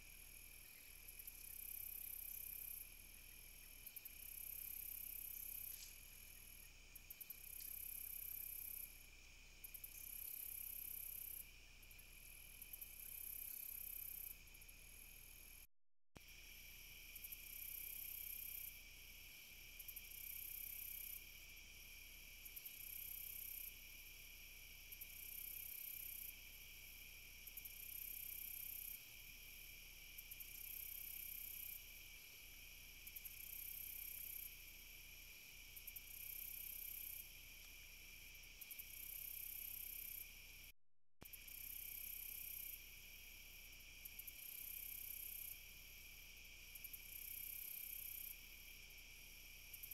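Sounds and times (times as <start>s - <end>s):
high insect chorus: 0.0s - 49.9s
insect ticks: 0.0s - 49.9s.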